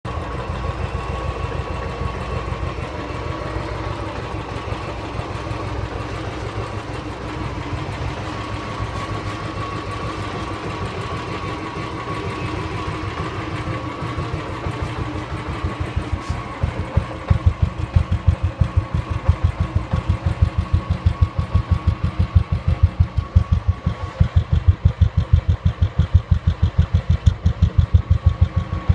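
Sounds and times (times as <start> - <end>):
motorcycle engine idling: 0.1 - 28.9.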